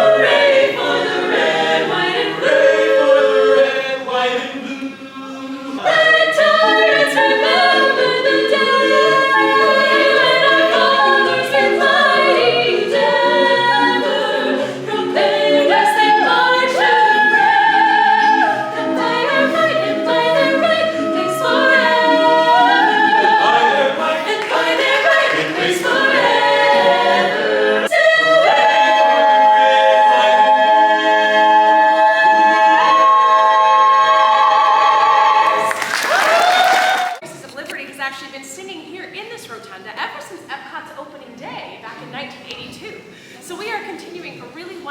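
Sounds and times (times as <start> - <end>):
a cappella choir singing: 0.0 - 37.2.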